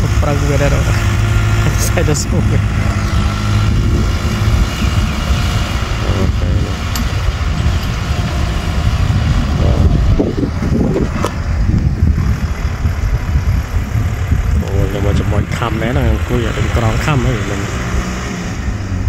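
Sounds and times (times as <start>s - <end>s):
tractor diesel engine droning: 0.0s - 19.0s.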